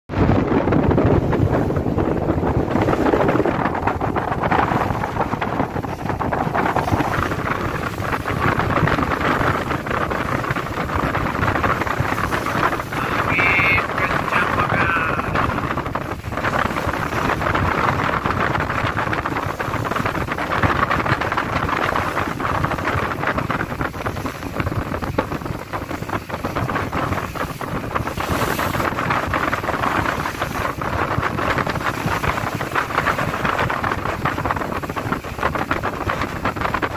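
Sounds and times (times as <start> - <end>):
wind buffeting microphone: 0.1 - 36.9.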